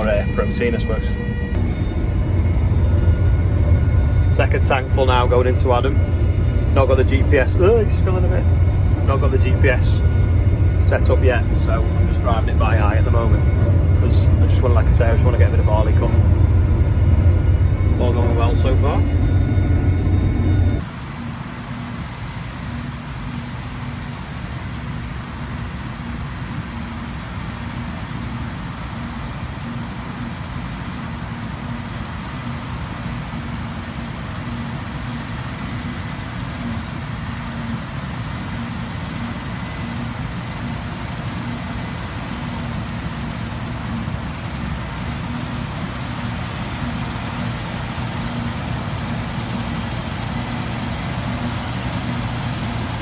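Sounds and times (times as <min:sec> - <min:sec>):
combine harvester engine and threshing drone: 0:00.0 - 0:53.0.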